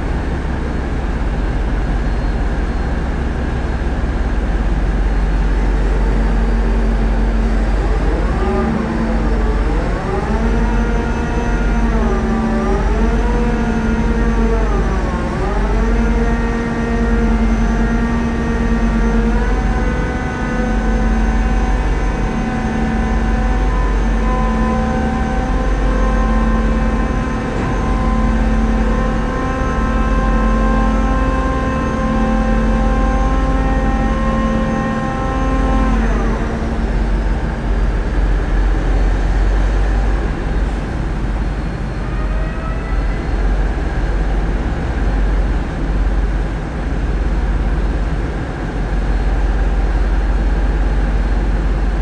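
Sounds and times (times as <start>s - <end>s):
diesel engines running under load: 0.0s - 52.0s.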